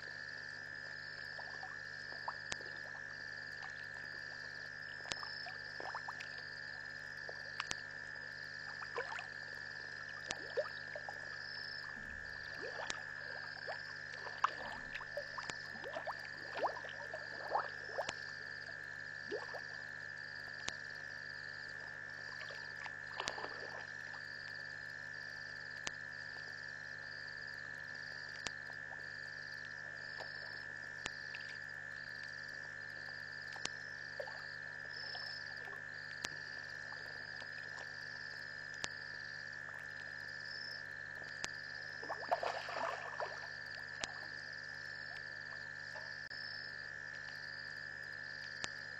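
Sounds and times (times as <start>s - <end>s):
frogs and insects trilling: 0.0s - 48.9s.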